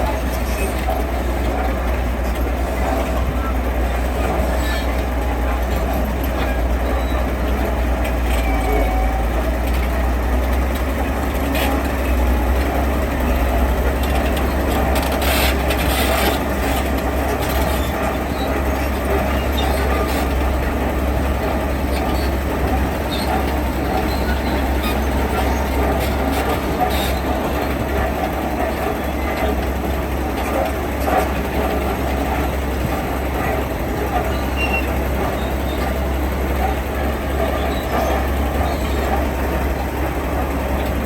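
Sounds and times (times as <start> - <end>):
diesel machinery engine drone: 0.0 - 41.0.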